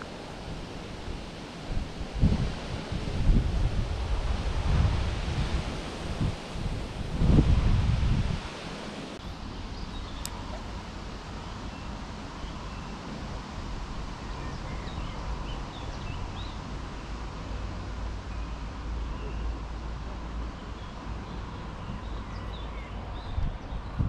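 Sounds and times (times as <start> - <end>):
light breeze: 0.0 - 24.0
wind buffeting microphone: 0.0 - 24.0.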